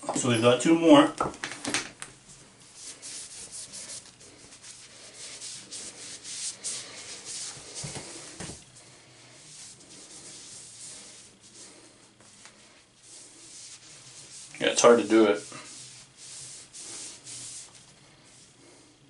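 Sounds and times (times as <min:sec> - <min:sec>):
cloth rubbing bowling ball: 0:02.6 - 0:08.8, 0:09.4 - 0:18.6.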